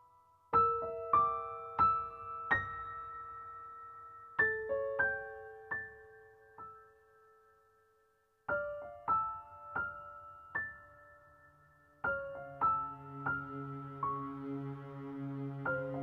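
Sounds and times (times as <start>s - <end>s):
soft piano notes: 0.0s - 16.0s.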